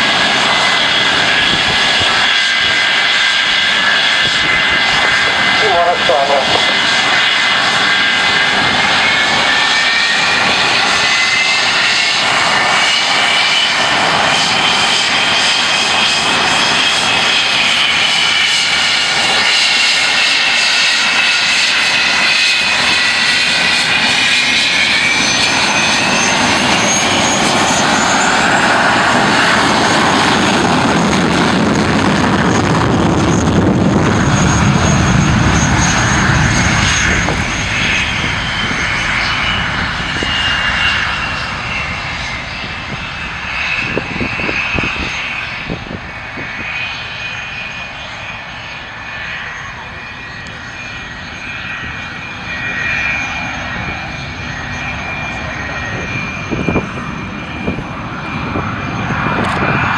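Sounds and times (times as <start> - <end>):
deep jet rumble: 0.0 - 59.9
jet engines whining: 0.0 - 59.9.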